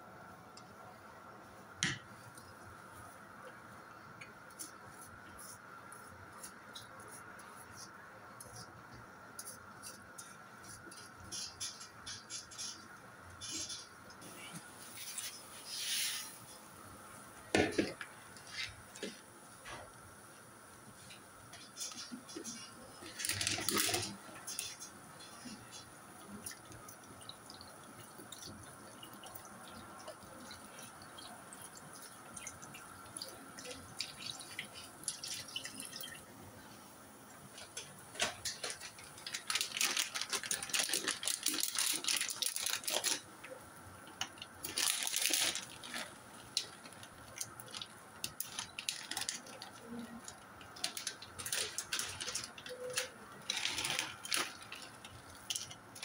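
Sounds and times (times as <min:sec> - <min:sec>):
crackling and rustling: 0:01.5 - 0:56.0.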